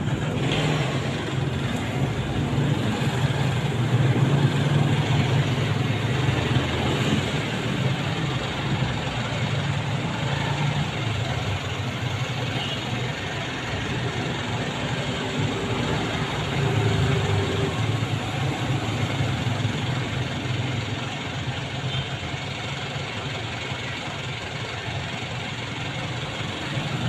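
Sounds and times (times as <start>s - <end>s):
motorcycles and cars passing: 0.0s - 27.0s.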